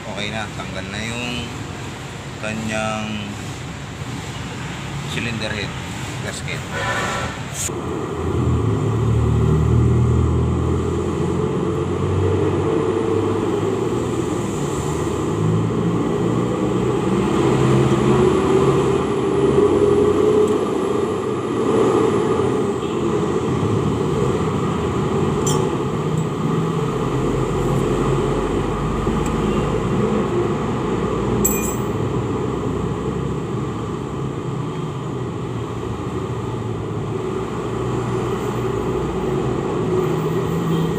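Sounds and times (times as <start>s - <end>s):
vehicle engines passing by: 0.0s - 40.9s.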